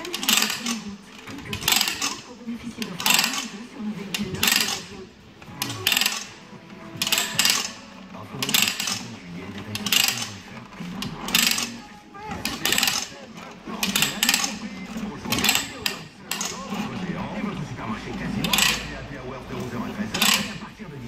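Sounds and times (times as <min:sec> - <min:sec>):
ratchet clicking bursts: 0:00.0 - 0:17.1, 0:18.0 - 0:19.1, 0:20.1 - 0:20.6.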